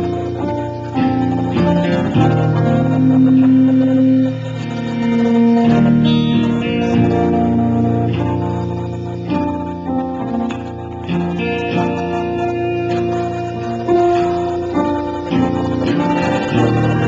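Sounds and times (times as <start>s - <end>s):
guitar: 0.0s - 17.0s
stage piano chords: 0.0s - 17.0s.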